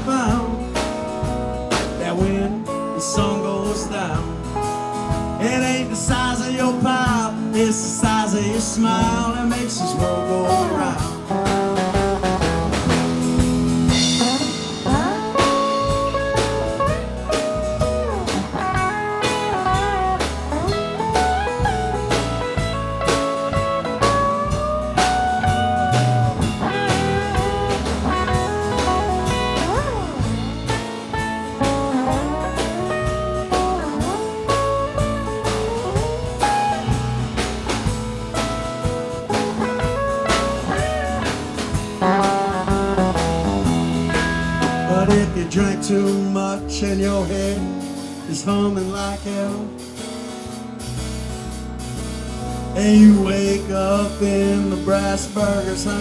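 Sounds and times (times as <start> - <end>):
lead guitar melody: 0.0 - 48.4
bass guitar: 0.0 - 56.0
drum kit: 0.0 - 56.0.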